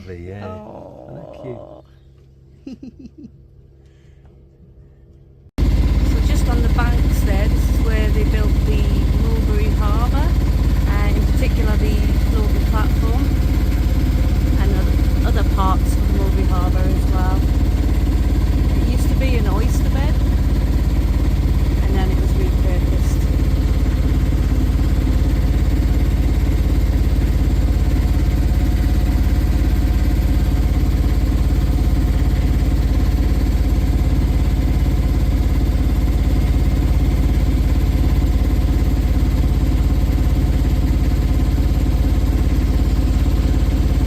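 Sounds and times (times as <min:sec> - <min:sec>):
boat engine droning: 0:03.4 - 0:44.0.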